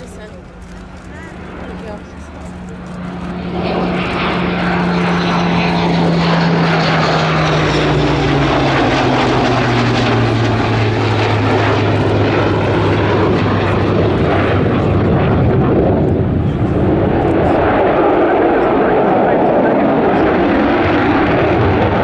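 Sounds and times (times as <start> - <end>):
jet engine roar: 0.0 - 22.0
piston engine aircraft passing: 0.0 - 22.0.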